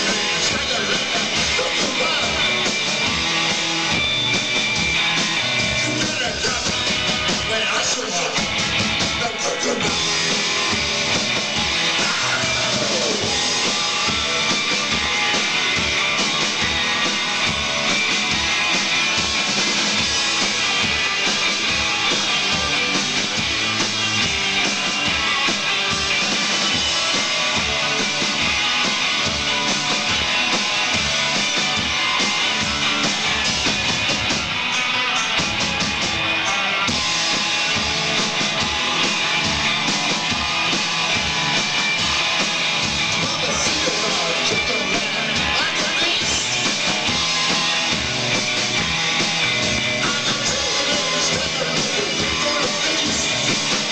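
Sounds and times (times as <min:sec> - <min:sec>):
drum kit beat: 0:00.0 - 0:53.9
rock band playing: 0:00.0 - 0:53.9.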